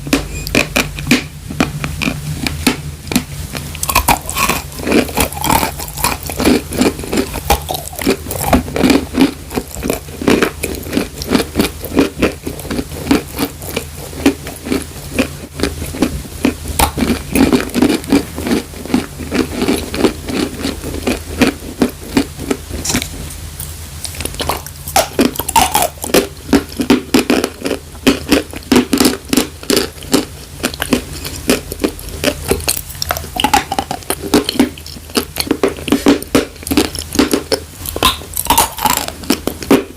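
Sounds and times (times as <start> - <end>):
chalk being chewed and crunched: 0.5 - 39.8.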